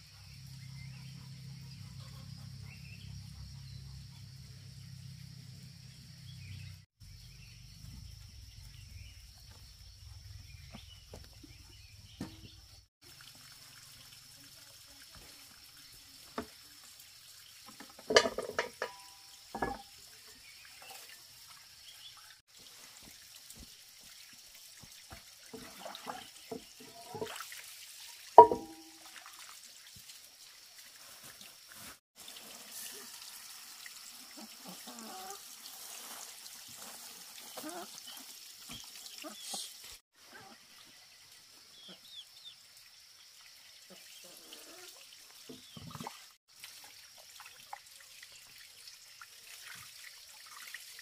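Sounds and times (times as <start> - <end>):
water splashing and trickling: 6.4 - 51.0.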